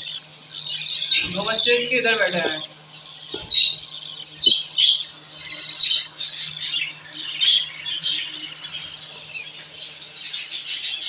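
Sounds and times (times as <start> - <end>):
budgerigars chirping and squawking: 0.0 - 11.0.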